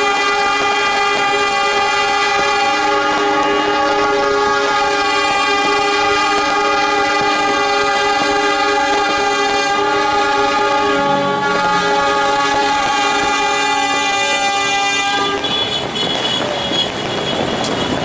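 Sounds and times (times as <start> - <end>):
locomotive horns blowing: 0.0 - 18.0.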